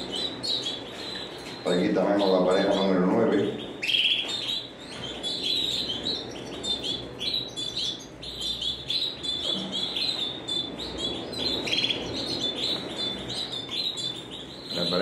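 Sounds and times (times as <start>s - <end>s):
canaries chirping: 0.0s - 15.0s.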